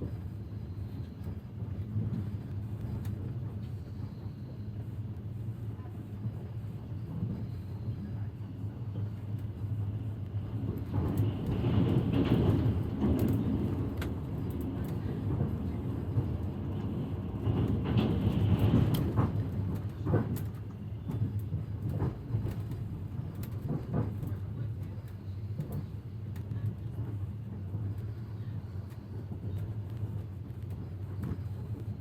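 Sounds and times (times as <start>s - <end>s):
train low rumble: 0.0s - 32.0s.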